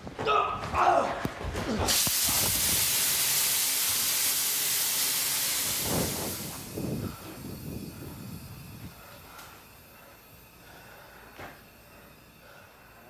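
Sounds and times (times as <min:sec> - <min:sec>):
pressurised gas hissing: 0:01.8 - 0:13.0.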